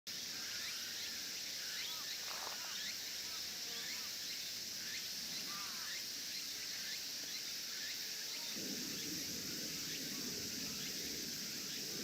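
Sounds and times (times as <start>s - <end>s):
high outdoor hiss: 0.1s - 12.0s.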